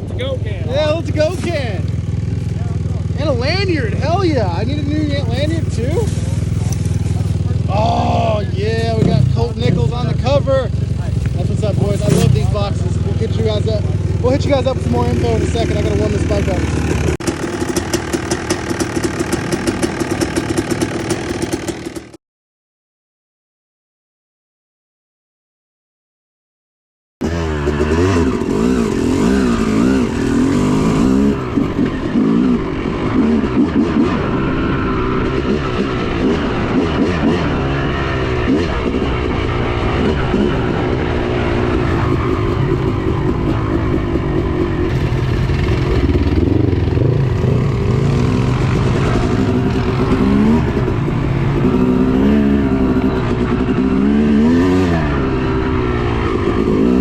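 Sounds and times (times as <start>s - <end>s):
two-stroke engine revving: 0.0s - 22.2s, 27.2s - 57.0s.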